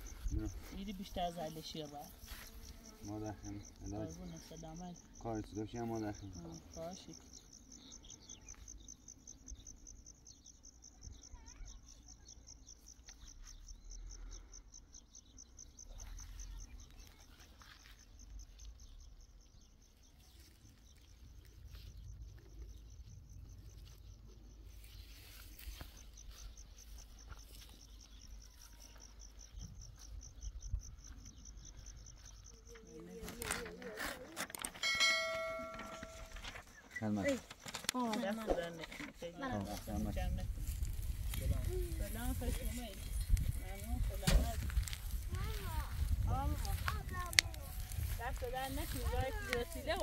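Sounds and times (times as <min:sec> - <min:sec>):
insects trilling: 0:00.0 - 0:50.0.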